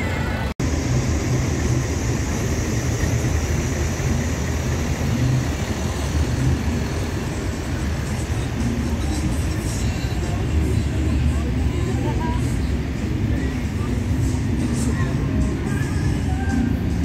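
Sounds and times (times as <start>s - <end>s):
truck engines idling: 0.0s - 17.0s
broad steady hiss: 0.6s - 17.0s.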